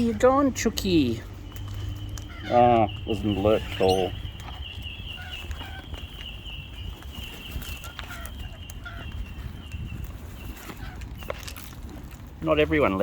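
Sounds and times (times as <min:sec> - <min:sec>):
birds giving soft calls: 0:00.0 - 0:13.0.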